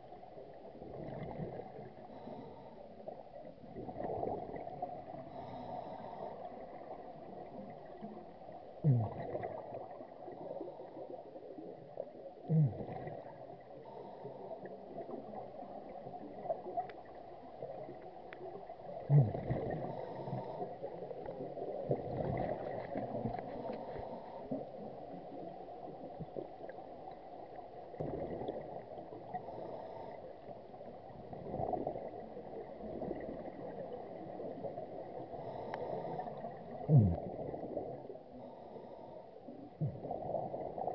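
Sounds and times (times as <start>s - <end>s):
exhaled bubbles gurgling underwater: 0.0s - 40.9s.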